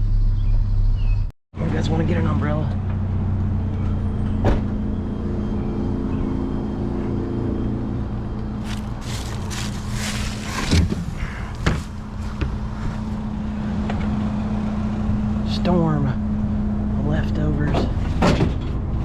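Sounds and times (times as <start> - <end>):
vehicle engine from inside cabin: 0.0 - 19.0.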